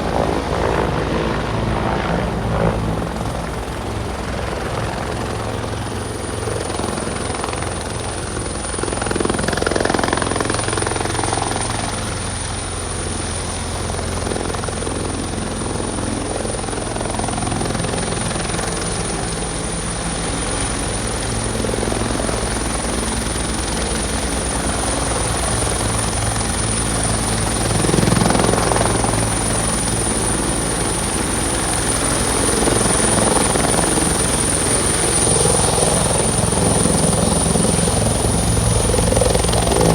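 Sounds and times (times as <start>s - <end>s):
helicopter rotor beat: 0.0s - 39.9s.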